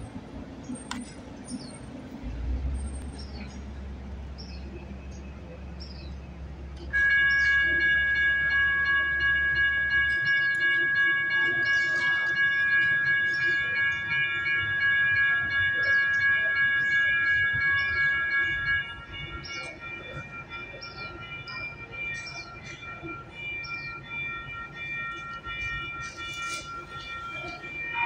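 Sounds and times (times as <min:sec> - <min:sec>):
railroad crossing bell ringing: 0:00.7 - 0:28.0.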